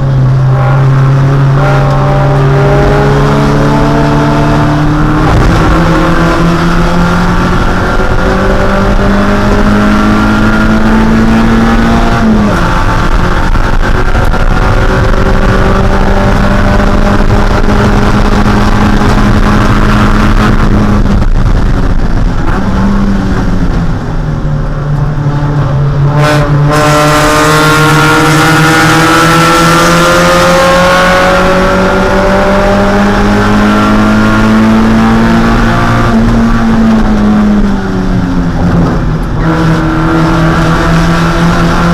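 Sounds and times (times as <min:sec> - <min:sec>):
car engine at racing revs: 0:00.0 - 0:41.9.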